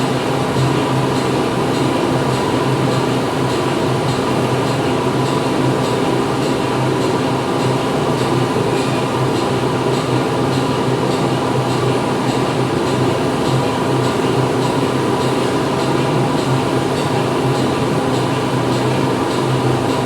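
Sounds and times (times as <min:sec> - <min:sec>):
factory machinery hum: 0:00.0 - 0:20.0.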